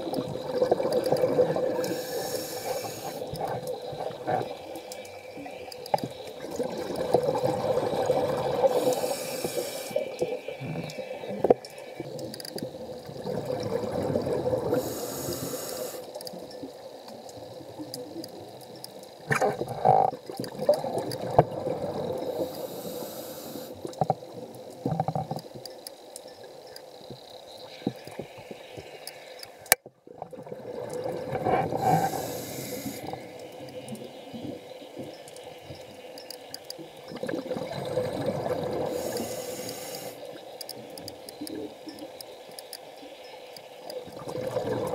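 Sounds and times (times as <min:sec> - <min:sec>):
muffled underwater bubbling: 0:00.0 - 0:18.6, 0:19.2 - 0:25.5, 0:30.0 - 0:36.0, 0:36.8 - 0:42.2, 0:43.9 - 0:44.9.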